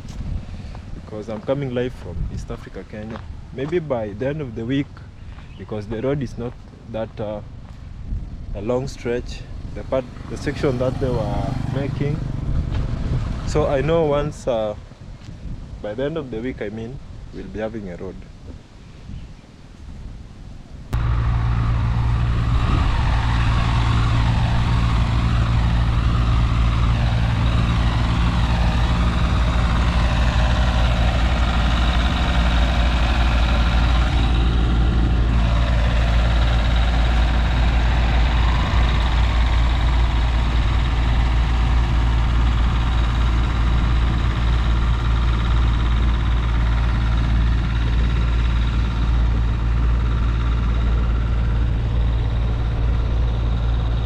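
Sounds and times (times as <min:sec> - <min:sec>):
vehicle engine running: 0:00.0 - 0:16.6, 0:20.9 - 0:54.0.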